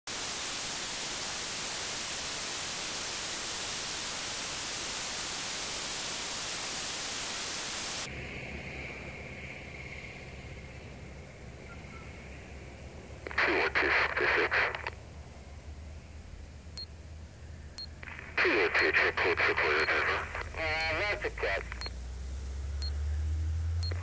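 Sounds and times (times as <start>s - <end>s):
white noise static hiss: 0.1s - 8.3s, 9.1s - 24.0s.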